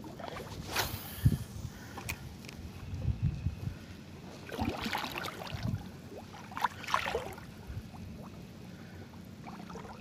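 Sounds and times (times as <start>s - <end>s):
water lapping around a boat: 0.0s - 10.0s.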